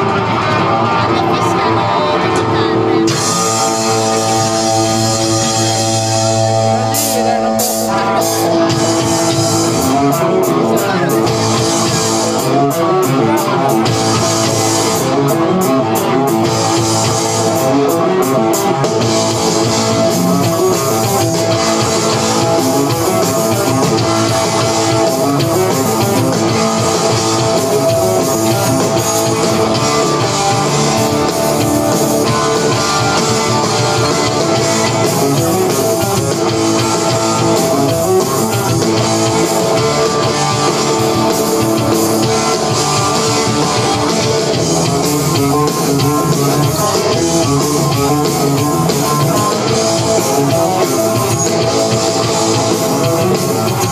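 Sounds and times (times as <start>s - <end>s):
loud rock music: 0.0s - 53.9s.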